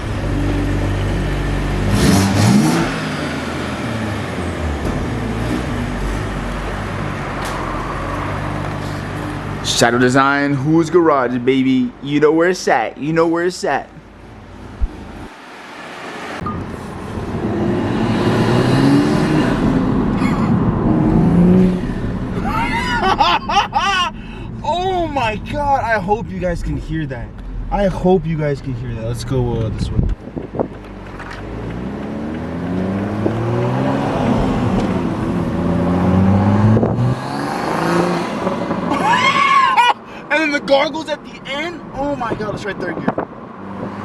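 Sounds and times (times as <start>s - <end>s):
car engine accelerating: 0.0s - 11.0s, 14.6s - 39.1s.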